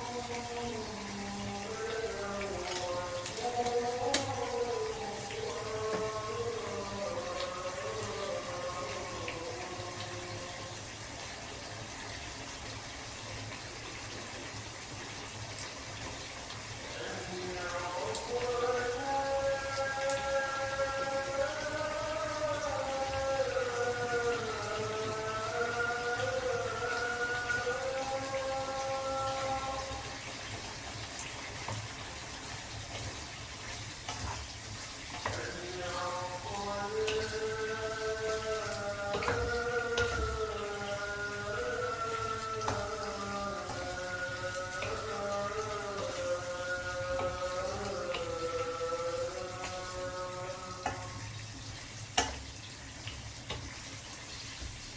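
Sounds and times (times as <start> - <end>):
water running from tap: 0.0 - 54.9.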